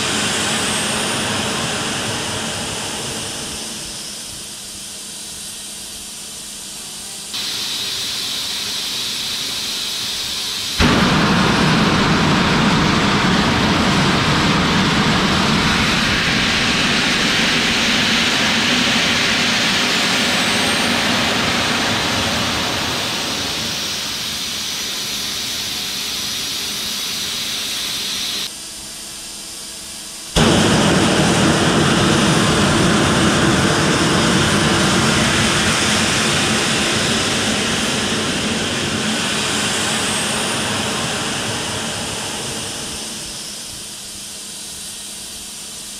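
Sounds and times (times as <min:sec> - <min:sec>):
rocket propellant hissing: 0:00.0 - 0:28.5, 0:30.2 - 0:45.9.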